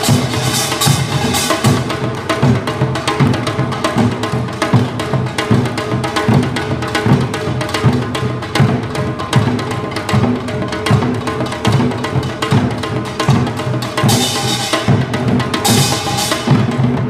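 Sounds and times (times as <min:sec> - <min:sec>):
hourglass drum and barrel drum rhythm: 0:00.0 - 0:17.0.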